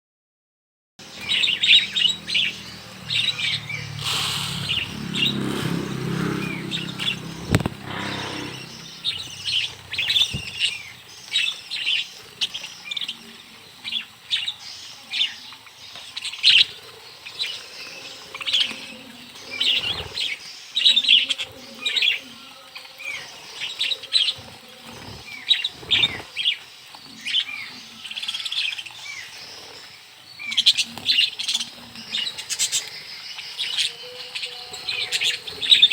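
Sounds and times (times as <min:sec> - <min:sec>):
budgerigars chirping: 0:01.1 - 0:35.9
wing fluttering: 0:01.2 - 0:35.9.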